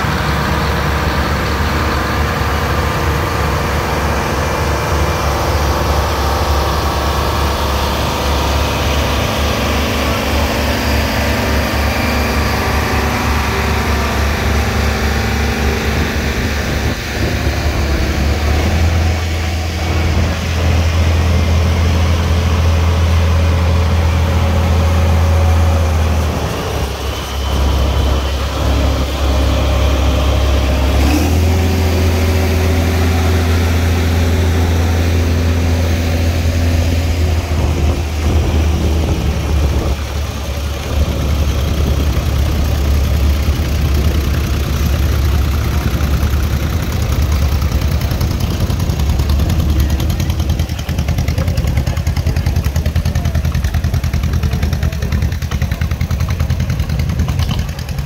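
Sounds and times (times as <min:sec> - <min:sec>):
tractor engines running slowly: 0:00.0 - 0:58.0.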